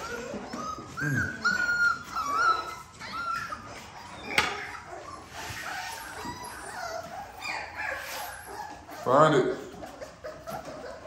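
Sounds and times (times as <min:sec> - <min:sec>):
puppies whining and yipping: 0:00.0 - 0:11.0.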